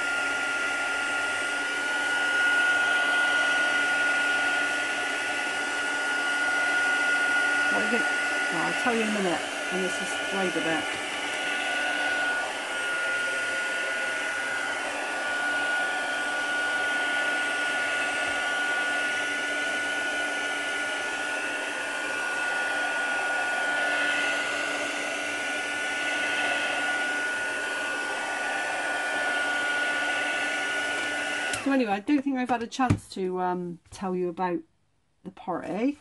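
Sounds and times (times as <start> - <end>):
electric blower air rush: 0.0 - 31.8.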